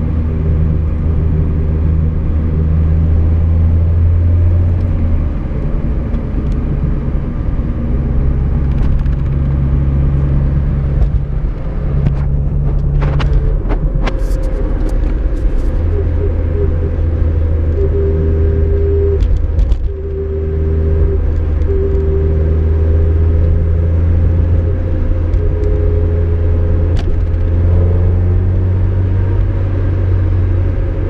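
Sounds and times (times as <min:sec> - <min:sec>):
car driving drone: 0:00.0 - 0:31.0
differential whining: 0:00.0 - 0:31.0.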